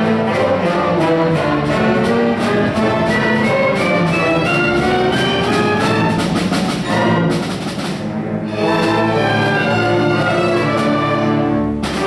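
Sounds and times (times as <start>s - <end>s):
orchestra playing sustained chords: 0.0s - 12.0s.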